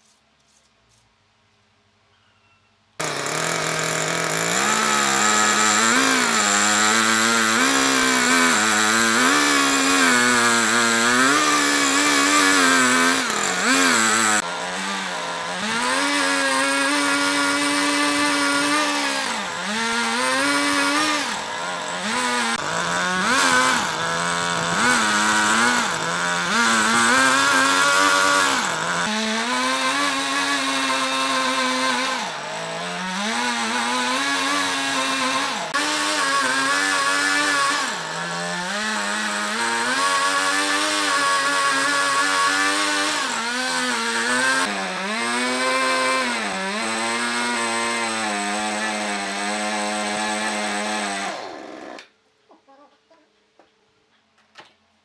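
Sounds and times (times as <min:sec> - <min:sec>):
chainsaw cutting log: 0:03.0 - 0:52.2.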